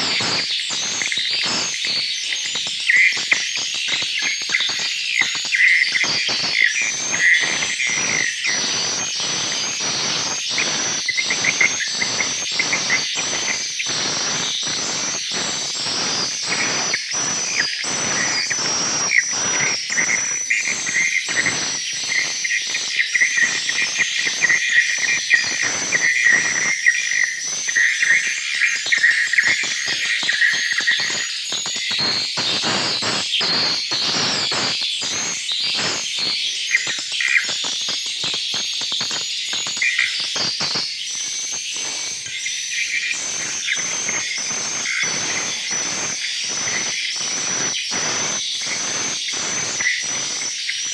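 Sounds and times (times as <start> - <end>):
swiftlets twittering: 0.0 - 50.9.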